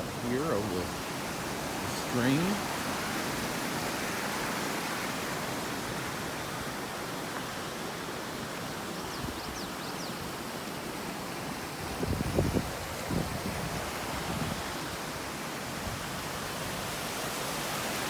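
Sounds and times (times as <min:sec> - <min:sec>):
stream and waterfall rushing: 0:00.0 - 0:18.0.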